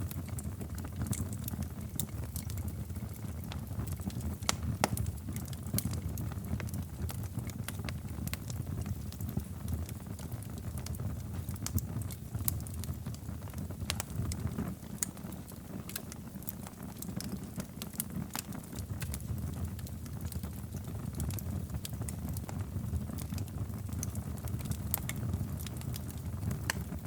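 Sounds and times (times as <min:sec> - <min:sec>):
fire pops and crackles: 0:00.0 - 0:27.0
low rumble of flames: 0:00.0 - 0:27.0.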